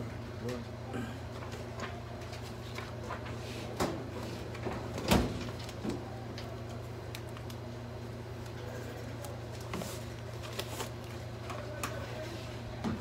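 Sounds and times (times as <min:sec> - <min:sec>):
papers rustling: 0:01.4 - 0:07.7, 0:08.3 - 0:12.8.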